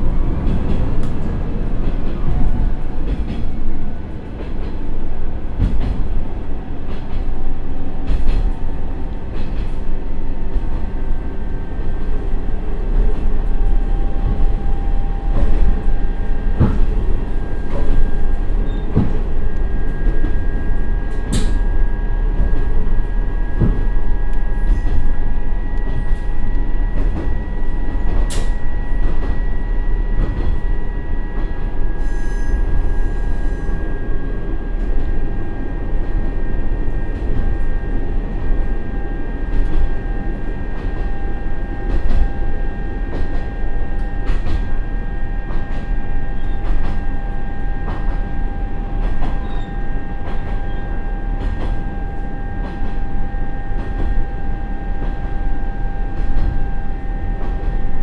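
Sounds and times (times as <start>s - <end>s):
steady whine: 0.0s - 58.0s
wheels rumbling on rails: 0.0s - 58.0s.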